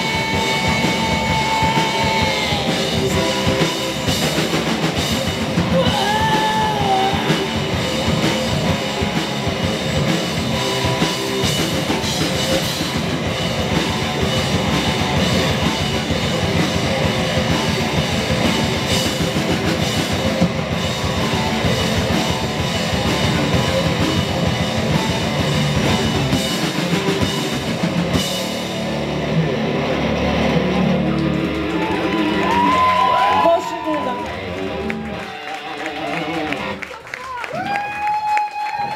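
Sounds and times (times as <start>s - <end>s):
drum kit: 0.0s - 36.8s
distorted electric guitars: 0.0s - 37.0s
bass guitar: 0.0s - 38.1s.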